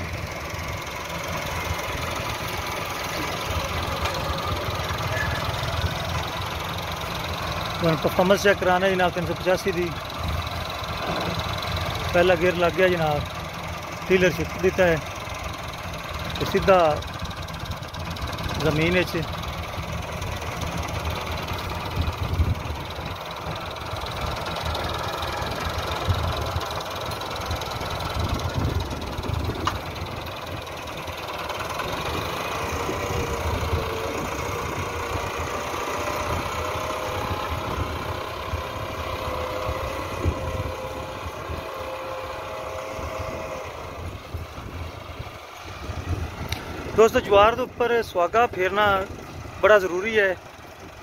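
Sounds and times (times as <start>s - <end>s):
tractor diesel engine under load: 0.0s - 51.0s.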